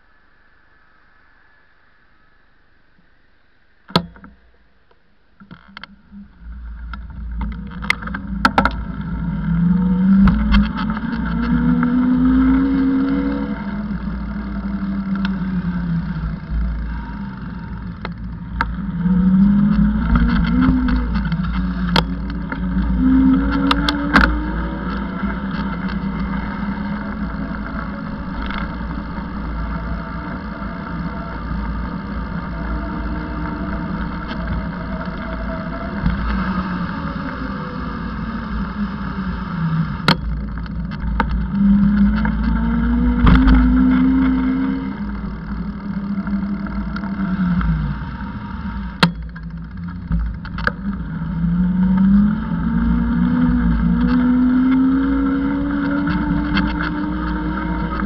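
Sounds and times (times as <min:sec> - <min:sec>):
vehicle ride rumble: 0:00.0 - 0:58.0
motor hum rising in pitch: 0:06.0 - 0:58.0.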